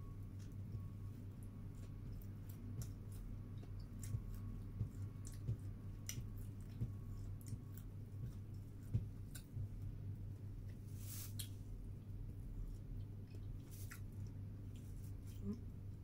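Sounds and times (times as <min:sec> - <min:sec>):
steady low hum: 0:00.0 - 0:16.0
person chewing a sandwich: 0:00.1 - 0:16.0.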